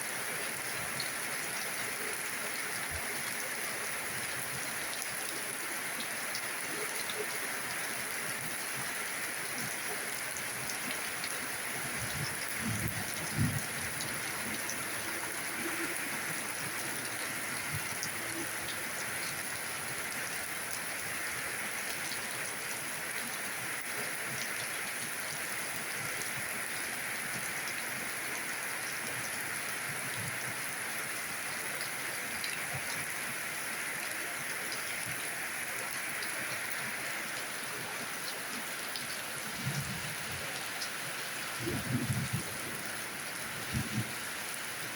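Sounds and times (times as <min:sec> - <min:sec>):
rain pattering: 0:00.1 - 0:44.9.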